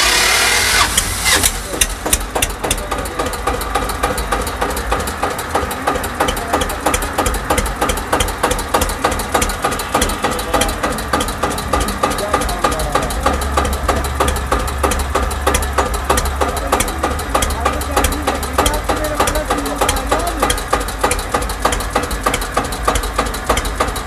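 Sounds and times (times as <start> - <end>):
diesel tractor engine idling: 0.0 - 24.0
electric starter cranking: 0.0 - 24.0.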